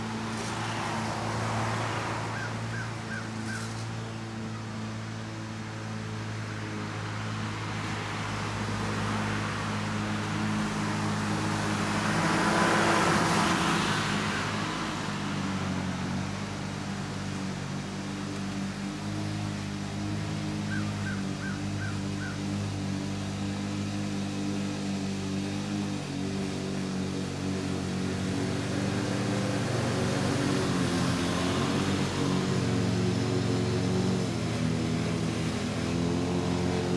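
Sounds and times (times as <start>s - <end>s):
car passing: 0.0s - 36.9s
distant lawn mower engine: 0.0s - 36.9s.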